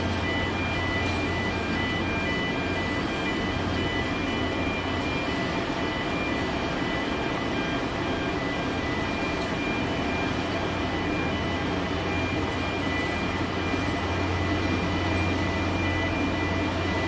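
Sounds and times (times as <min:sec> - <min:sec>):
heavy diesel machinery humming: 0:00.0 - 0:17.0.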